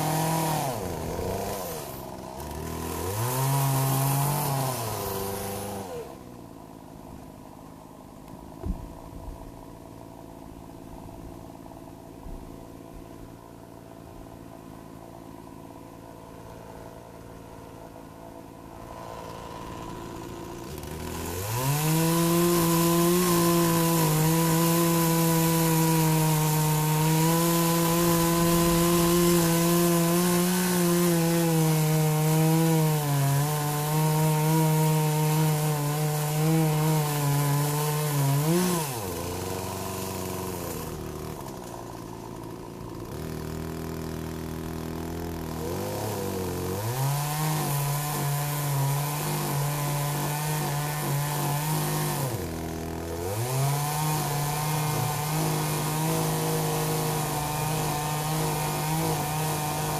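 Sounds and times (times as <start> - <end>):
chainsaw cutting tree stump: 0.0 - 59.9
chainsaw revving and idling: 0.0 - 59.9.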